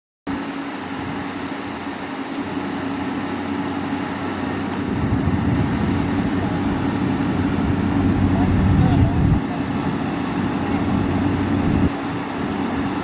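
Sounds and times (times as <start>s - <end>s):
diesel engine running: 0.3s - 13.0s.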